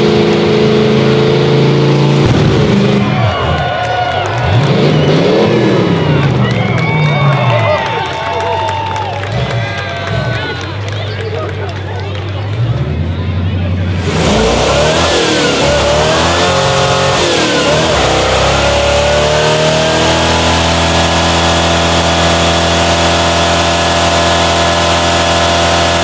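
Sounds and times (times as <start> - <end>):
engine revving hard: 0.0 - 7.8, 12.5 - 26.0.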